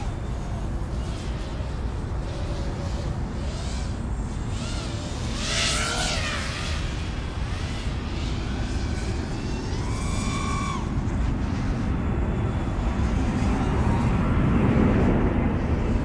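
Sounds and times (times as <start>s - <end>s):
quadcopter motors whining: 0.0s - 16.0s
wind on microphone: 0.0s - 16.0s.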